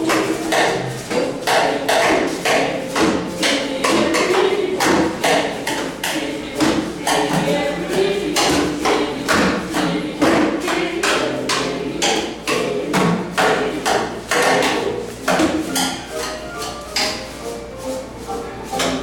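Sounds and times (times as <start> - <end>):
rhythmic percussion on objects: 0.0 - 19.0.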